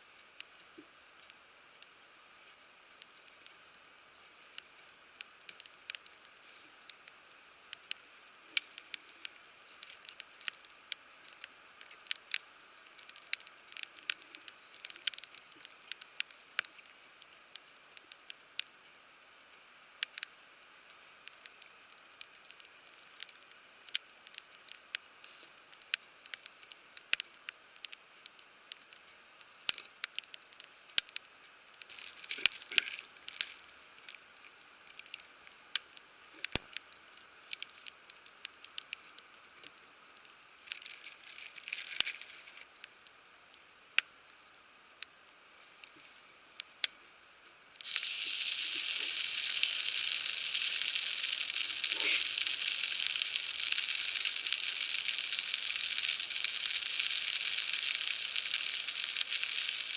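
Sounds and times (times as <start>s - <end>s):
wood fire crackling and popping: 0.2s - 47.0s, 47.8s - 59.9s.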